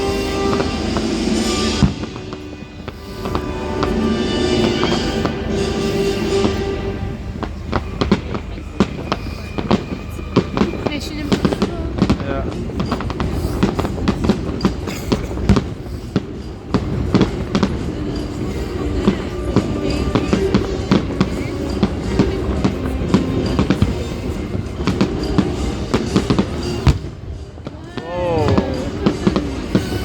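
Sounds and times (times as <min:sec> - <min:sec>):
fireworks bangs and crackles: 0:00.0 - 0:30.0
music: 0:00.0 - 0:30.0
people's voices: 0:00.0 - 0:30.0.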